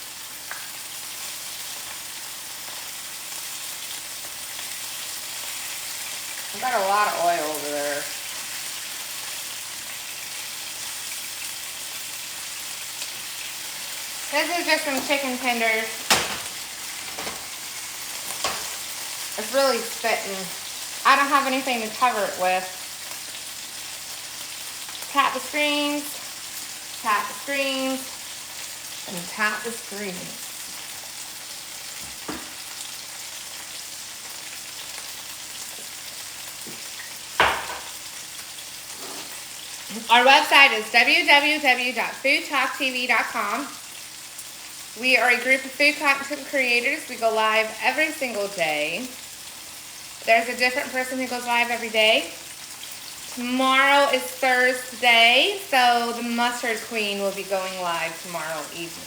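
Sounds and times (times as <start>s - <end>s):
chicken frying in oil: 0.0s - 59.0s.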